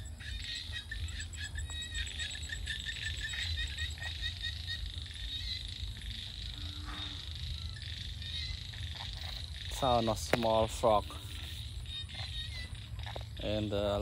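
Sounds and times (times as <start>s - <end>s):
insect chirps: 0.0s - 14.0s
insects buzzing: 0.0s - 14.0s.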